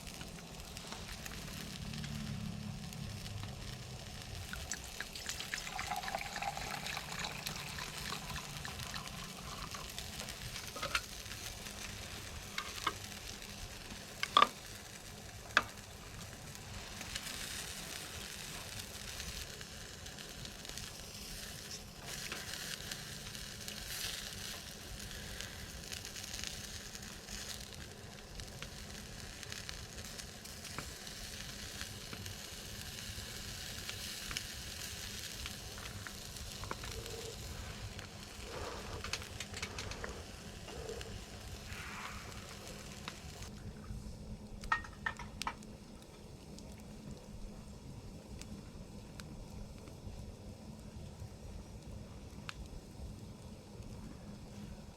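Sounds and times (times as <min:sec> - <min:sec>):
food sizzling: 0:00.0 - 0:43.5, 0:44.6 - 0:45.7.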